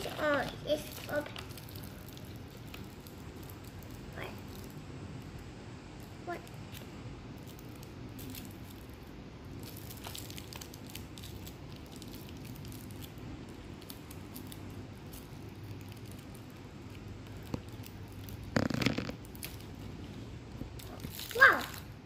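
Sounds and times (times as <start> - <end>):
candy wrapper crinkling: 0.0 - 22.0
low room hum: 0.0 - 22.0.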